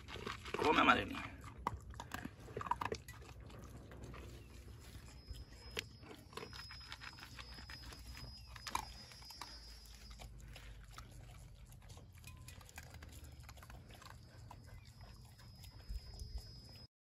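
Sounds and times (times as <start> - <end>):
dog crunching dry kibble: 0.0 - 16.9.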